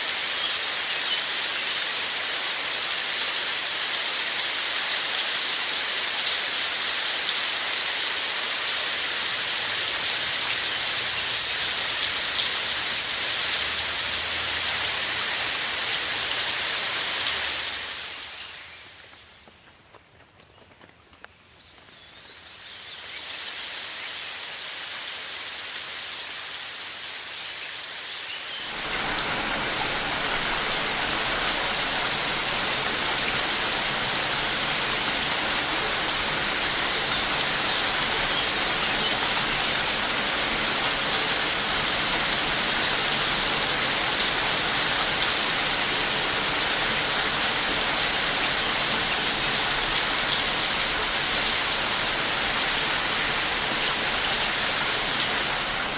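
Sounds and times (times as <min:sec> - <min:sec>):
rain falling: 0:00.0 - 0:19.5, 0:21.3 - 0:55.9.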